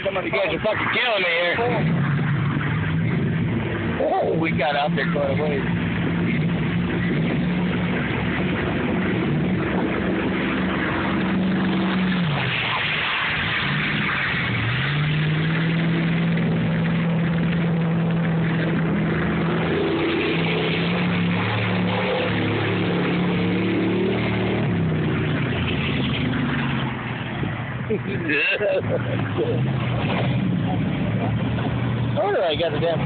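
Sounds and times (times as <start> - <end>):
pickup truck engine working hard: 0.0 - 33.0.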